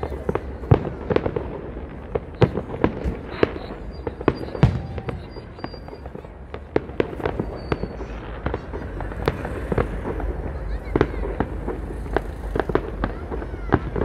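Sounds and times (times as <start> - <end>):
fireworks bursting with bangs: 0.0 - 14.0
fireworks crackles: 0.0 - 14.0.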